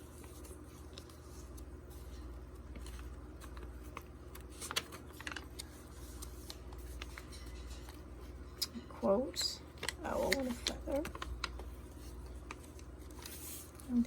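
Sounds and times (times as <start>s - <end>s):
paper pages rustling: 0.0s - 8.5s, 9.6s - 14.0s
steady low hum: 0.0s - 14.0s.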